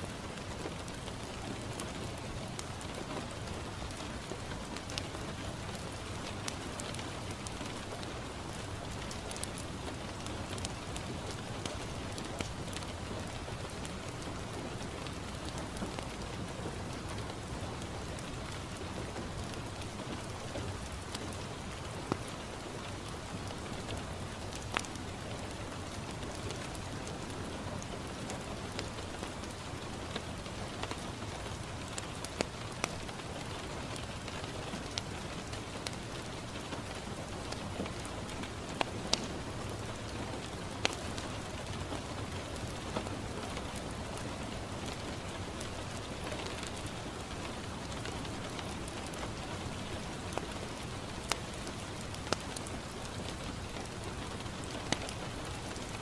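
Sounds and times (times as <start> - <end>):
rain on a window pane: 0.0 - 56.0
wood fire crackling: 0.1 - 56.0.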